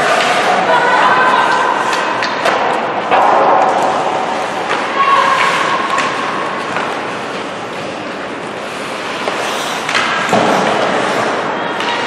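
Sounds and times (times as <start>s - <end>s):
arena noise: 0.0s - 12.0s
skates on ice: 0.0s - 12.0s.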